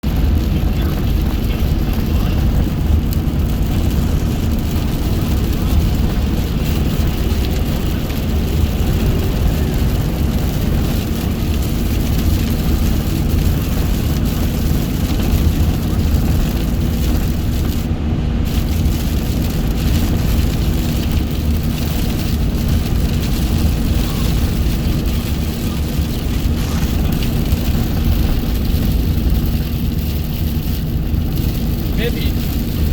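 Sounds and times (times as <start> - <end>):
car tyres and engine rumble: 0.0 - 32.9.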